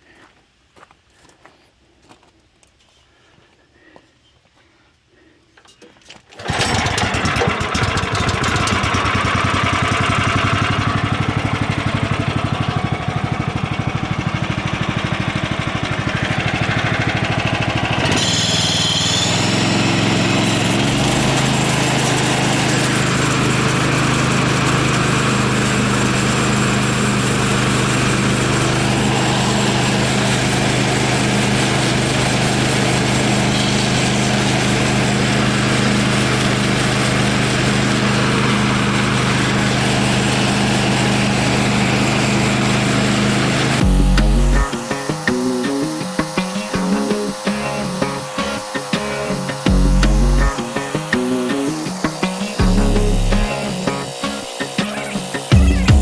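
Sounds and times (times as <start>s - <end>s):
sawmill engine running loudly: 6.4s - 56.0s.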